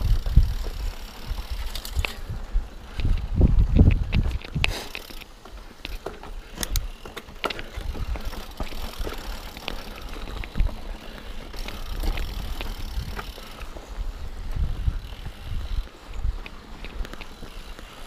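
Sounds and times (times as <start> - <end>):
bike clicks and rattles: 0.0 - 18.0
bike tyres crunching on stones: 0.0 - 18.0.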